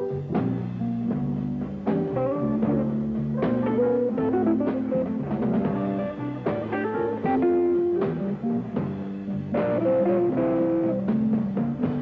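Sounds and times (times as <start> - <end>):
live blues guitar music: 0.0 - 12.0.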